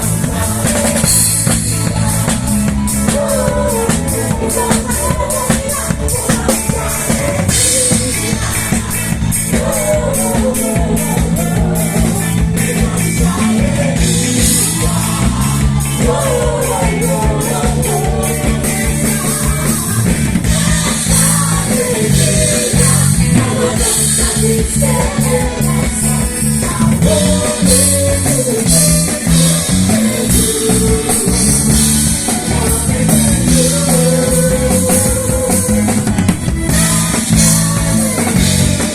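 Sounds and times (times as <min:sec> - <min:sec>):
bass line: 0:00.0 - 0:38.9
drum kit beat: 0:00.0 - 0:38.9
person singing: 0:00.0 - 0:38.9.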